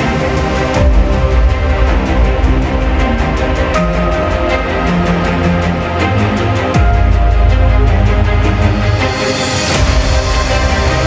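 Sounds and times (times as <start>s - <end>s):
music with fast beat and bass: 0.0s - 11.0s.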